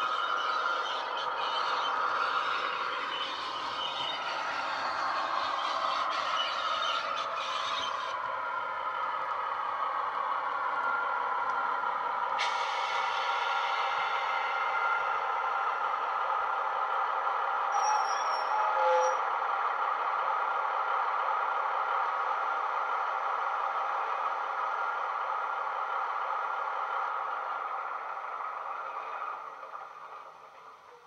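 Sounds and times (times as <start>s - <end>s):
model train diesel engine sound: 0.0s - 31.0s.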